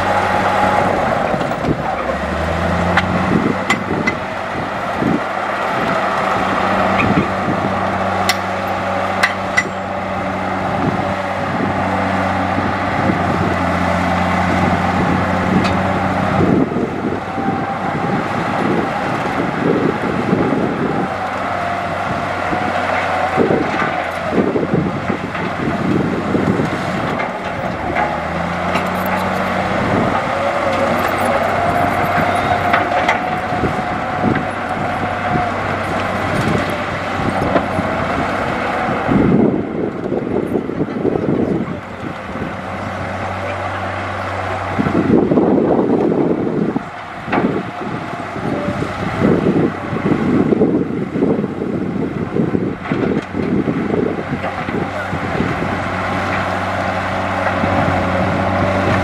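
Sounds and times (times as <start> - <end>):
wavering whine: 0.0 - 50.0
diesel earthmoving machinery engine: 0.0 - 59.0.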